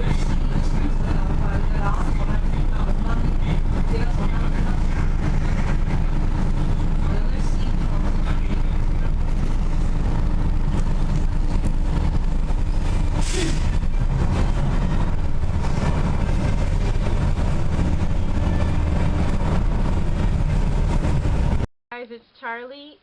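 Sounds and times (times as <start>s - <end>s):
moving vehicle rumble: 0.0s - 21.7s.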